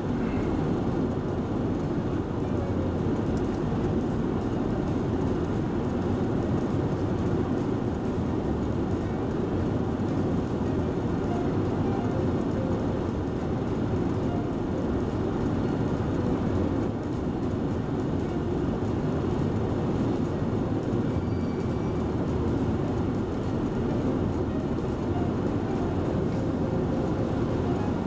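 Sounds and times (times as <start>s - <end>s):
vehicle low rumble: 0.0s - 28.0s.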